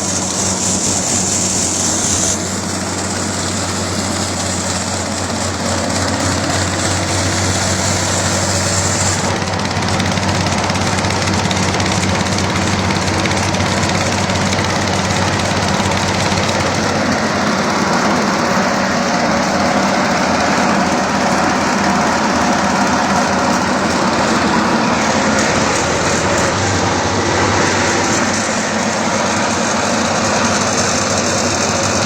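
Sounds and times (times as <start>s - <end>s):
grinding mill machine drone: 0.0s - 32.0s.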